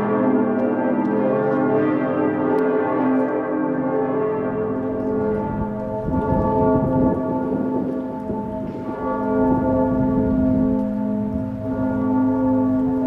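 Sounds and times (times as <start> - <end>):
church bells ringing in full peal: 0.0 - 13.0.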